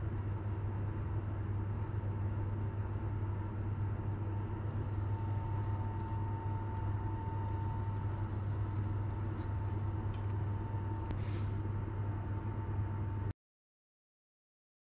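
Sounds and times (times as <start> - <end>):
low hum with high whine: 0.0 - 13.4.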